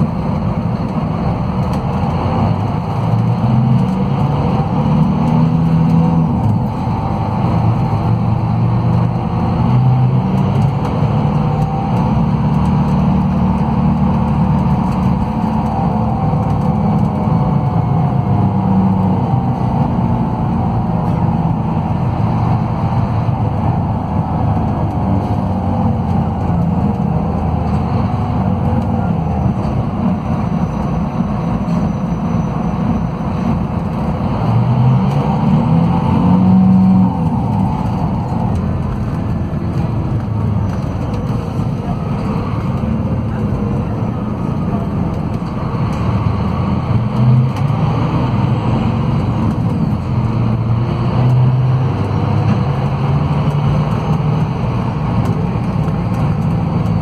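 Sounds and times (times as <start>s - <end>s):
diesel coach engine running: 0.0s - 57.0s
road and tyre noise: 0.0s - 57.0s.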